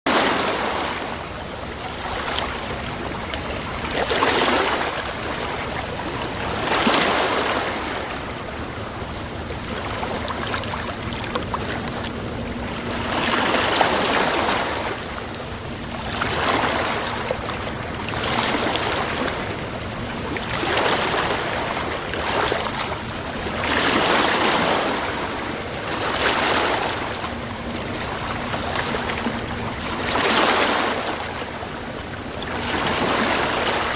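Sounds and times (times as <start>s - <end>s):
sea waves breaking: 0.1s - 33.9s.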